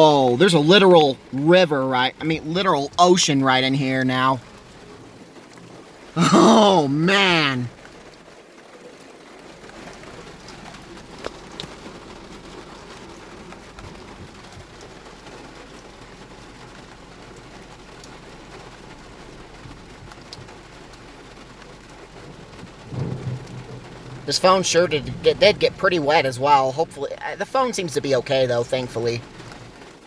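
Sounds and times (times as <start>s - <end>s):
heavy rain on a car: 0.0s - 30.0s
raindrops ticking: 0.0s - 30.0s.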